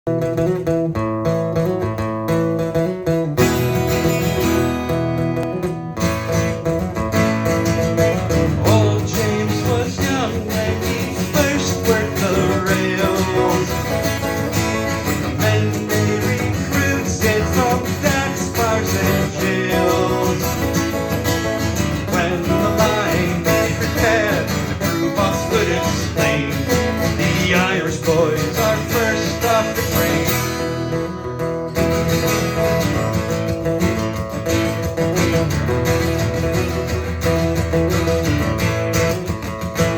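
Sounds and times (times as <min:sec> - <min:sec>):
strummed acoustic guitar: 0:00.0 - 0:39.9
melodic guitar line: 0:00.1 - 0:39.9.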